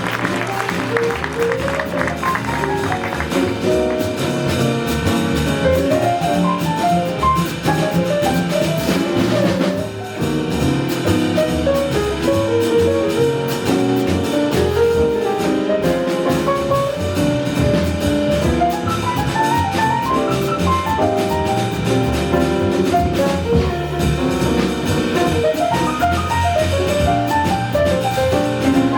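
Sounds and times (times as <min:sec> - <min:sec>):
bass line: 0:00.0 - 0:28.9
drum kit and cymbals: 0:00.0 - 0:28.9.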